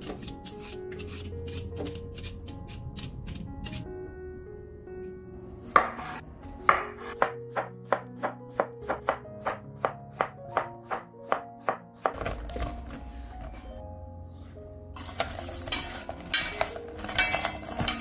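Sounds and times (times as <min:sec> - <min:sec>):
light background music: 0:00.0 - 0:18.0.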